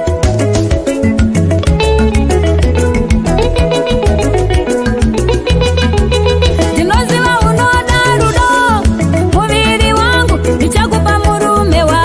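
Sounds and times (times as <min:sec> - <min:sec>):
instrumental gospel music: 0:00.0 - 0:12.0.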